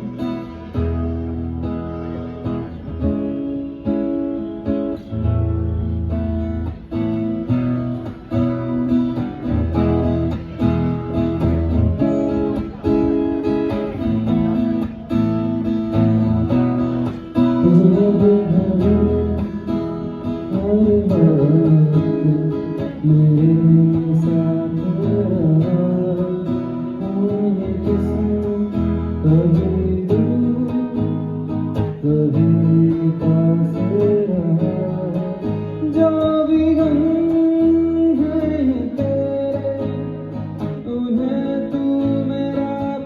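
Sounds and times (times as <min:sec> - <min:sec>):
strummed guitar chords: 0:00.0 - 0:43.0.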